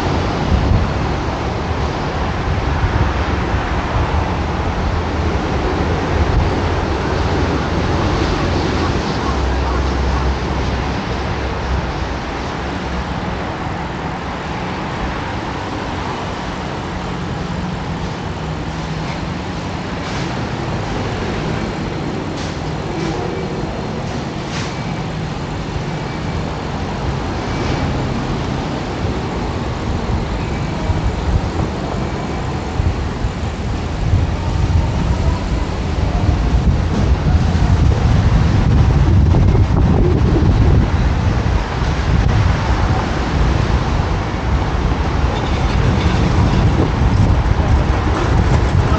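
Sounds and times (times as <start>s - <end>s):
city road traffic: 0.0s - 48.9s
vehicles passing: 0.0s - 48.9s
wind buffeting microphone: 0.0s - 48.9s.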